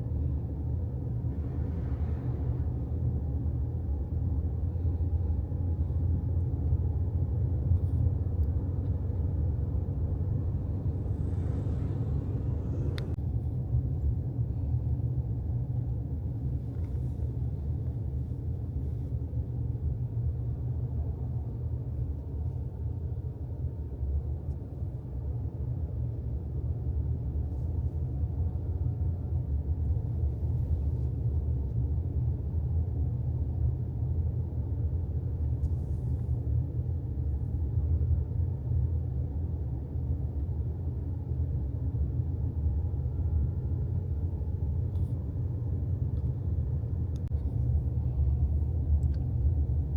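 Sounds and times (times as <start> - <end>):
car driving rumble: 0.0 - 33.1, 34.4 - 49.9.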